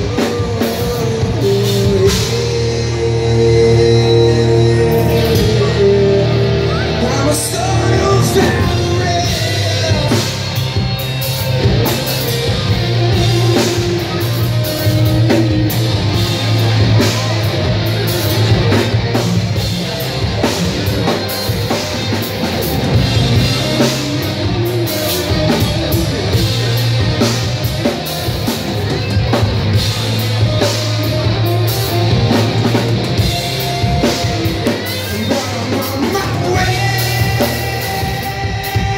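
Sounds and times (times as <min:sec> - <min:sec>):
bass guitar: 0:00.0 - 0:38.9
drum kit beat: 0:00.0 - 0:38.9
electric guitars: 0:00.0 - 0:38.9.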